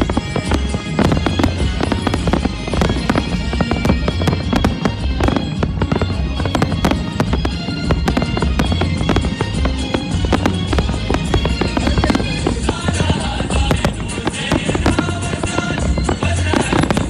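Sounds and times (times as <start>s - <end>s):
fireworks bursting and crackling: 0.0s - 17.0s
music playing: 0.0s - 17.0s.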